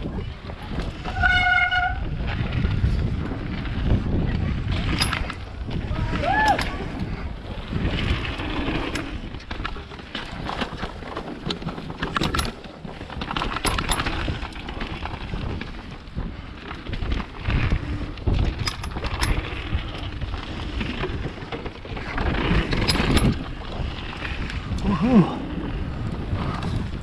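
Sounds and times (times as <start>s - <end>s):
bike rattling and clicking: 0.0s - 27.0s
wind rumbling on microphone: 0.0s - 27.0s.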